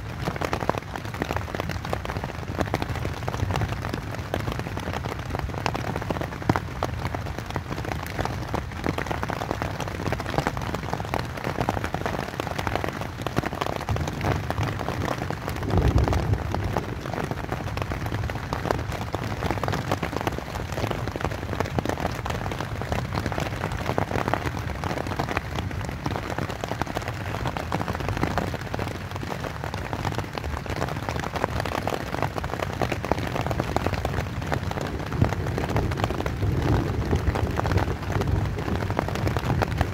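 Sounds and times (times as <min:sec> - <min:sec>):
rain pattering on tent: 0:00.0 - 0:39.9.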